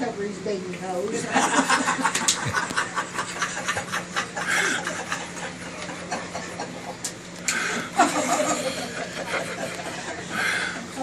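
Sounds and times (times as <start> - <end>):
low room hum: 0.0 - 11.0
people laughing: 1.1 - 11.0.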